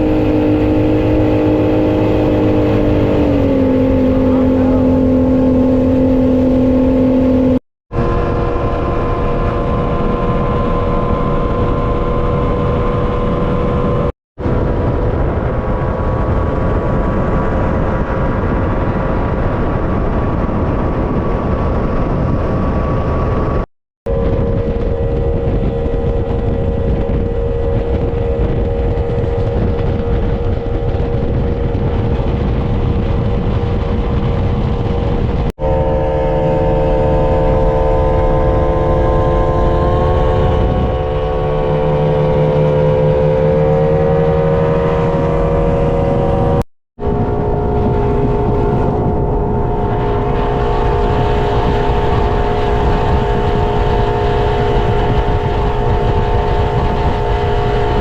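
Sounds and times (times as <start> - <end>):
powerboat engine running: 0.0 - 58.0
rushing noise: 0.0 - 58.0.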